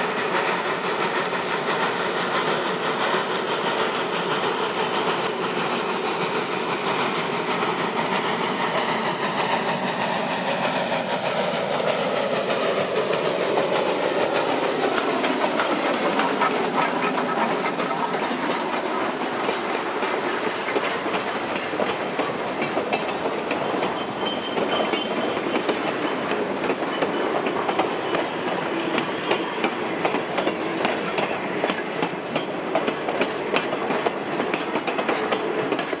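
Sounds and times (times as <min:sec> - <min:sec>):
steam locomotive passing: 0:00.0 - 0:36.0
train wheels clickety-clack: 0:00.0 - 0:36.0.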